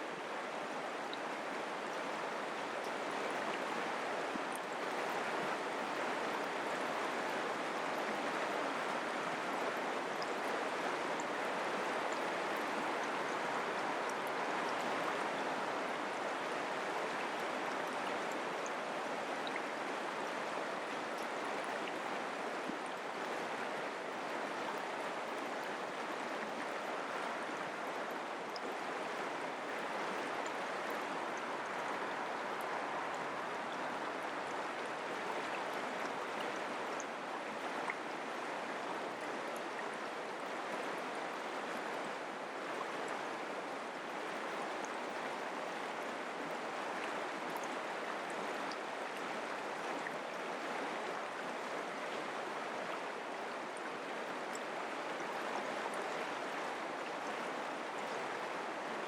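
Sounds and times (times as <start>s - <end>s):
creek water flowing: 0.0s - 59.0s.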